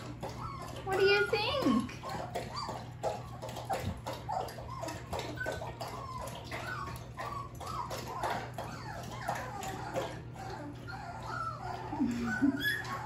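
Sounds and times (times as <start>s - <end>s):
puppies squeaking and whimpering: 0.0s - 13.0s.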